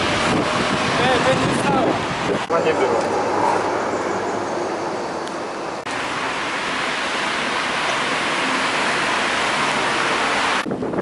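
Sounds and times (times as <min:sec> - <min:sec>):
wind on microphone: 0:00.0 - 0:05.5, 0:06.8 - 0:11.0
street traffic rushing: 0:00.0 - 0:11.0.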